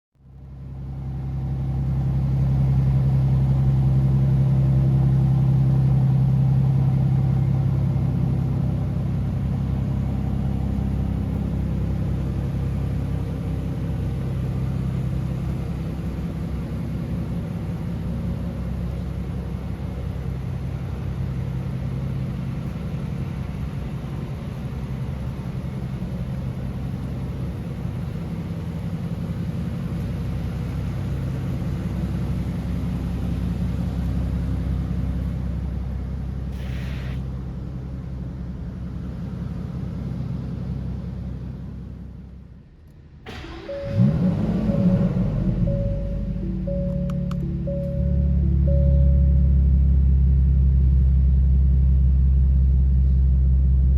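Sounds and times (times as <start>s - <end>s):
car engine idling: 0.2s - 53.9s.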